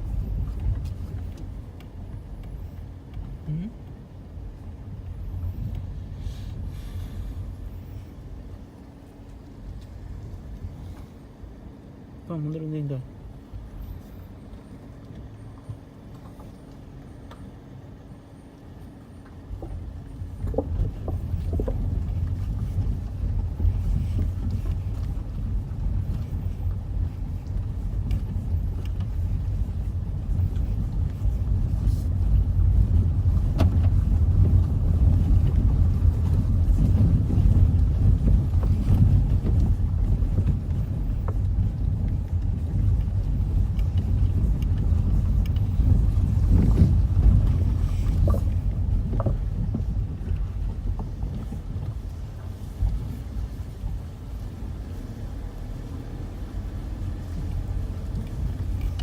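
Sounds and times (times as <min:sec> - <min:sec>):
car engine hum: 0:00.0 - 0:59.0
road and wind rumble: 0:00.0 - 0:59.0.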